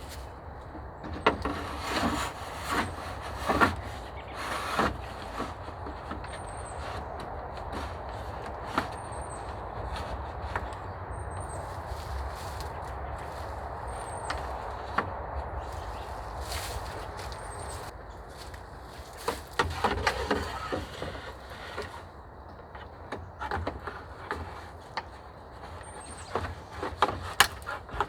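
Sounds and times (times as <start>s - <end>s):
low outdoor background: 0.0s - 28.0s
wooden sticks knocking and scraping: 0.0s - 28.0s.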